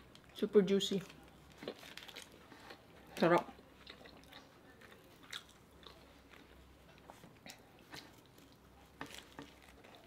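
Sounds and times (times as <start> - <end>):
people chewing pastry: 0.0 - 10.0.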